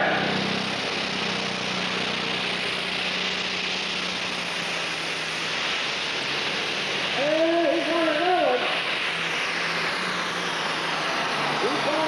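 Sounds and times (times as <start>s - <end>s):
heavy rushing hiss: 0.0s - 12.0s
tractor engine at full throttle: 0.0s - 12.0s.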